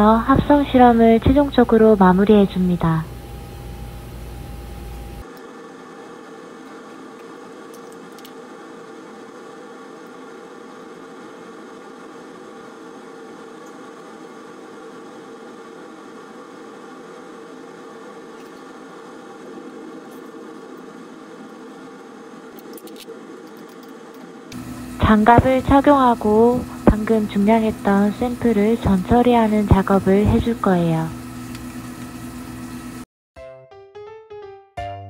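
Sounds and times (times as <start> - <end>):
ventilation fan humming: 0.0 - 33.1.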